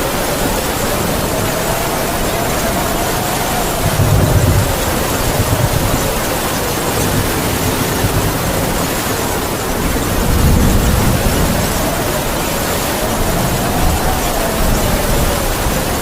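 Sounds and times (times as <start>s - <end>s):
heavy rain falling: 0.0s - 16.0s
howling wind: 0.0s - 16.0s.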